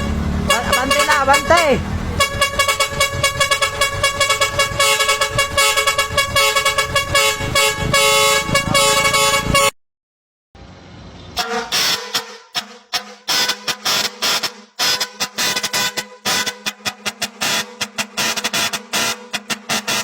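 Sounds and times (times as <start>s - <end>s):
vehicle air horns blasting: 0.0s - 9.7s, 11.3s - 20.0s.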